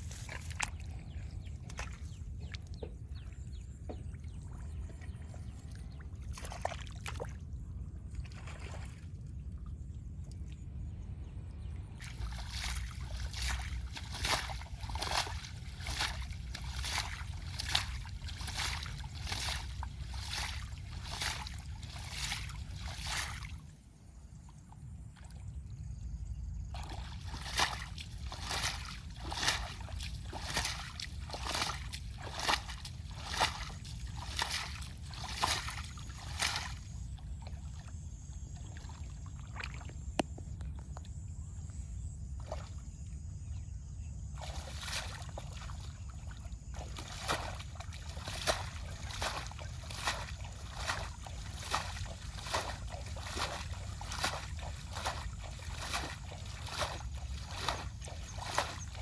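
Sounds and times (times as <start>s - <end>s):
water sloshing and splashing: 0.0s - 11.0s, 11.9s - 23.9s, 24.5s - 41.0s, 42.3s - 43.5s, 44.3s - 59.0s
steady low rumble: 0.0s - 44.5s, 45.3s - 59.0s.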